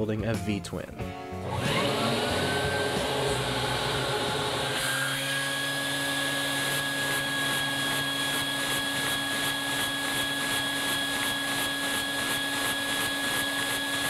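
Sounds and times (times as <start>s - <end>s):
vacuum cleaner whine: 1.4s - 14.0s.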